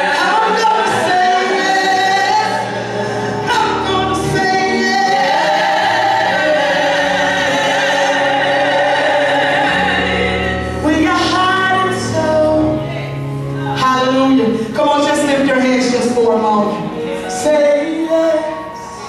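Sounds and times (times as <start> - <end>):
instrumental accompaniment with bass: 0.0 - 19.0.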